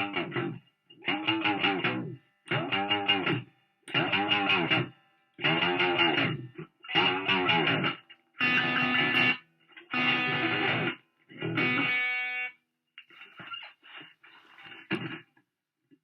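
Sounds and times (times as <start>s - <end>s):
electric guitar with wah pedal: 0.0s - 15.3s.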